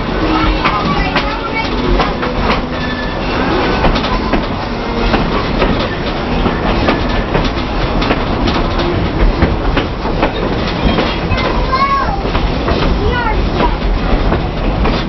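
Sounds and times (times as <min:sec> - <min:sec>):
train rumbling along track: 0:00.0 - 0:15.0
wheels clacking over rail joints: 0:00.0 - 0:15.0.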